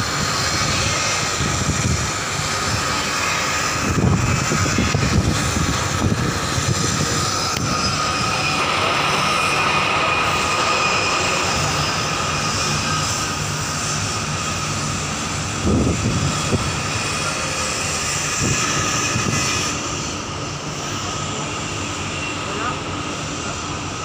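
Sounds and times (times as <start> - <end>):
faint high whine: 0.0 - 24.0
marine engines droning: 0.0 - 24.0.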